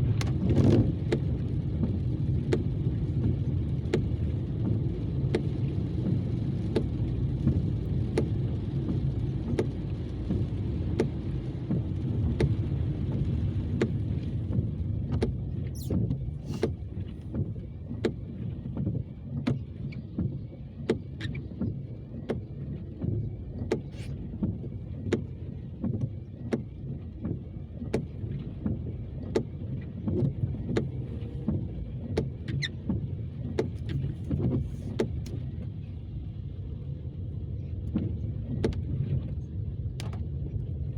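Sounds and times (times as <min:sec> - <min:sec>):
road and engine rumble: 0:00.0 - 0:40.9.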